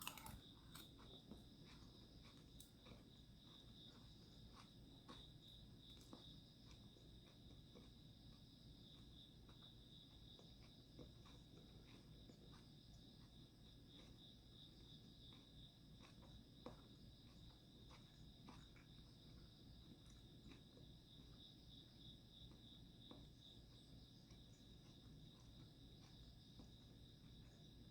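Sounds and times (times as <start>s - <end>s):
soft eating clicks and taps: 0.0s - 21.4s, 22.4s - 27.7s.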